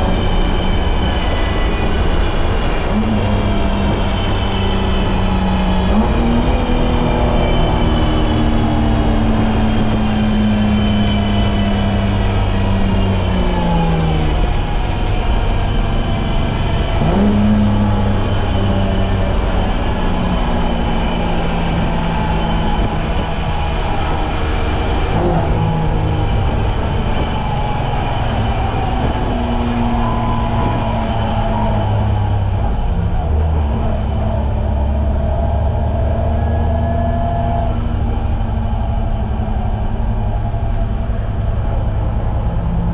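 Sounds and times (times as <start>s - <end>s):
car engine running hard: 0.0s - 42.9s.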